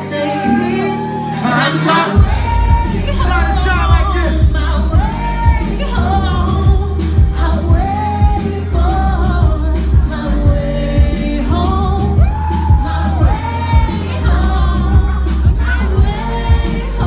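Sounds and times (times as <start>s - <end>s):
hip-hop song through speakers: 0.0s - 17.0s.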